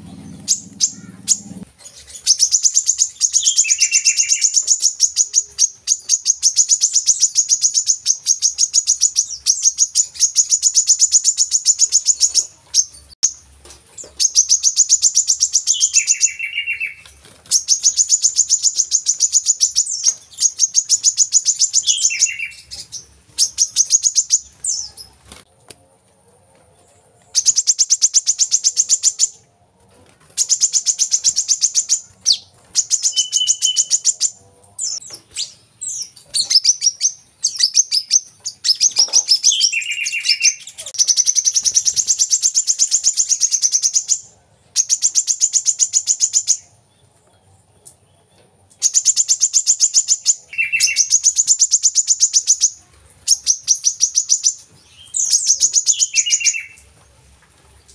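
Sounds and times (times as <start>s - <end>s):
bird singing trilled phrases: 0.0s - 13.4s, 14.1s - 25.1s, 30.4s - 46.7s, 48.8s - 56.9s.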